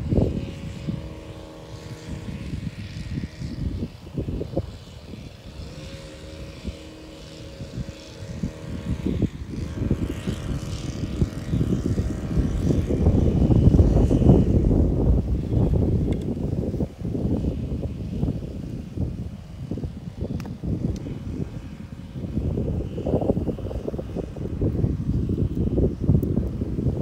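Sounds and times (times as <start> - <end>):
distant engine droning: 0.0 - 27.0
wind buffeting microphone: 0.0 - 27.0.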